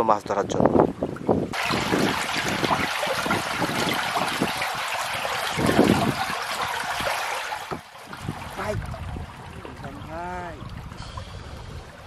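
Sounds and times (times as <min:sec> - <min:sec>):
water trickling and streaming: 0:00.0 - 0:12.0.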